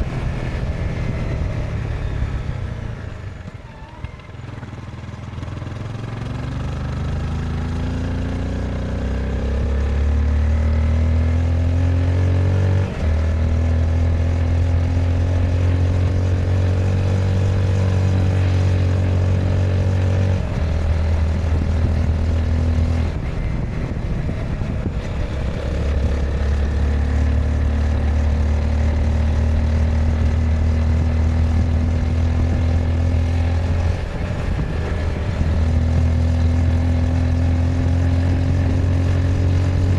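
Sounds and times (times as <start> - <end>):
motorcycle engine pulling under throttle: 0.0 - 39.9.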